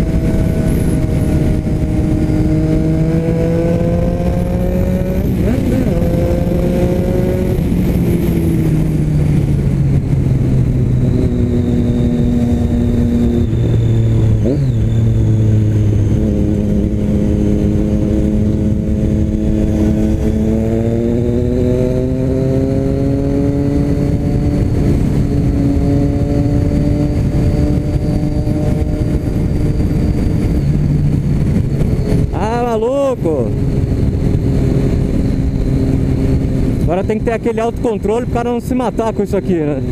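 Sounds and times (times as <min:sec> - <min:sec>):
motorcycle engine through loud exhaust: 0:00.0 - 0:39.9.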